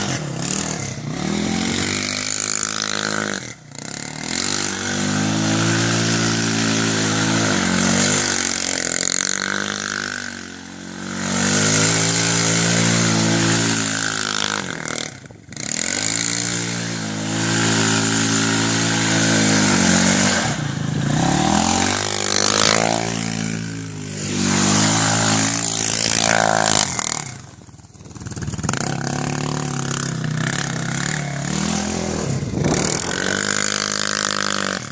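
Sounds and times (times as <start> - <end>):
vehicle engine revving: 0.0 - 34.9.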